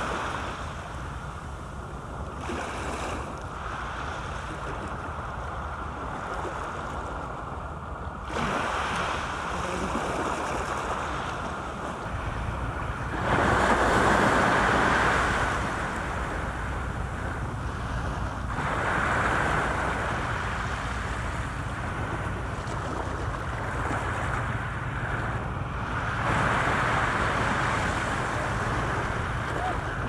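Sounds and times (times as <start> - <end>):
small waves washing against seawall: 0.0 - 30.0
wind buffeting microphone: 0.0 - 30.0.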